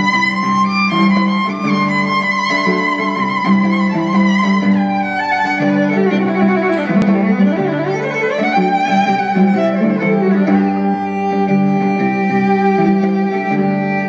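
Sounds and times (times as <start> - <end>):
looped violin notes: 0.0 - 14.0.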